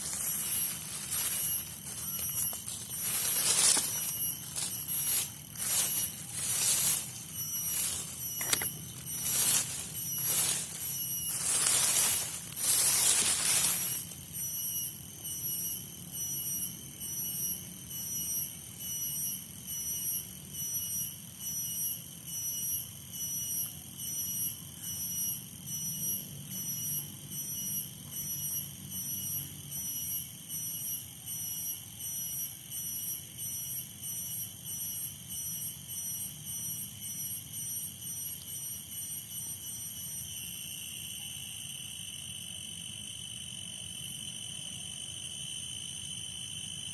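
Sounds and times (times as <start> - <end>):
insect calling with high tone: 0.0 - 46.9.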